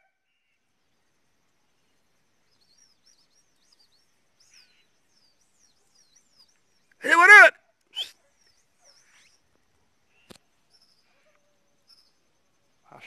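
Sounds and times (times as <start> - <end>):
faint high bird chirps: 0.0 - 13.0.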